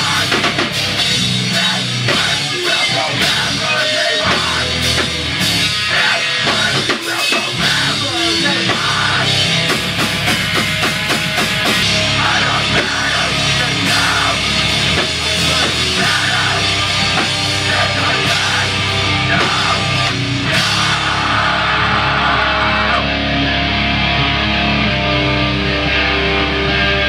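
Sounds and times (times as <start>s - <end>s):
drum kit and cymbals: 0.0s - 21.8s
distorted electric guitars: 0.0s - 27.0s.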